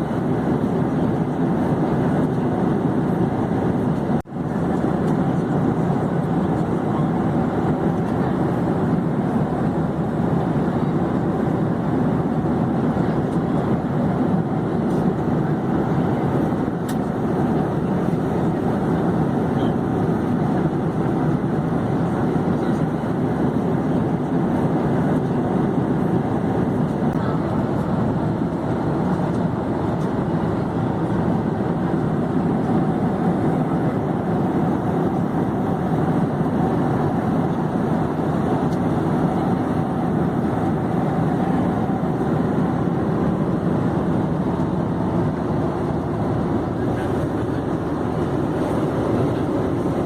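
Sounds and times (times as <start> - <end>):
airplane engine and airflow drone: 0.0 - 50.0.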